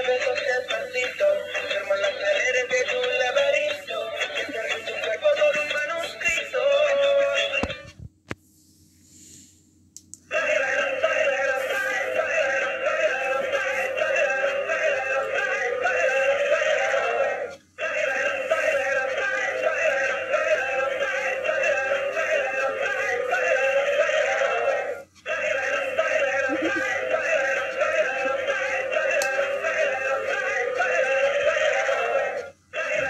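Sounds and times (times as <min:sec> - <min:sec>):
toy speaker playing synthetic singing: 0:00.0 - 0:08.0, 0:10.3 - 0:33.0.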